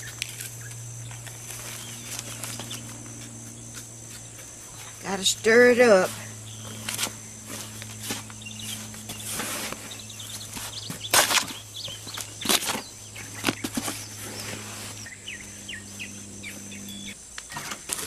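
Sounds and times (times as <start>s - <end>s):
small birds chirping: 0.0s - 17.7s
low steady hum: 0.0s - 18.0s.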